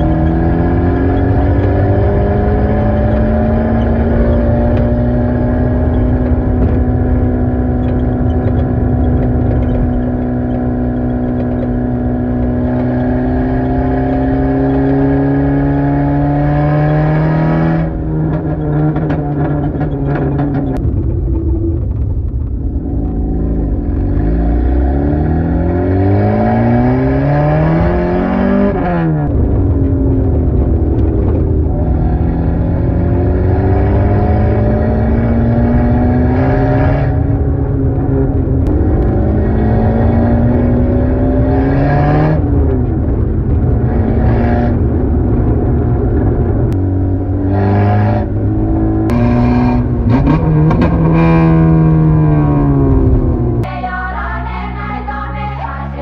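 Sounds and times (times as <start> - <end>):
car engine accelerating: 0.0 - 53.8.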